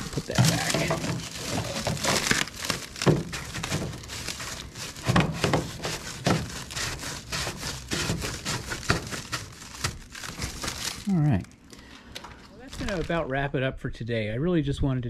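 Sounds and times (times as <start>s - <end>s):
plastic wrap crinkling: 0.0s - 13.4s.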